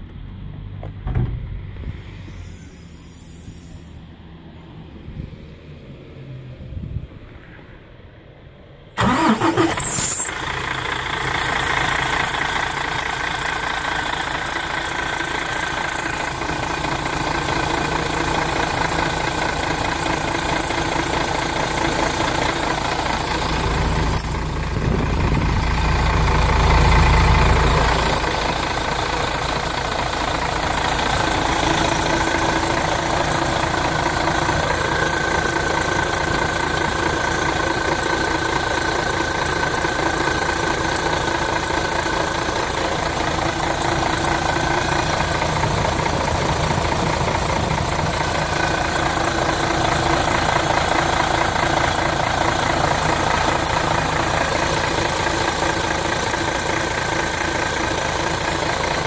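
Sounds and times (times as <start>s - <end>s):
diesel bus engine starting and idling: 0.0s - 59.0s.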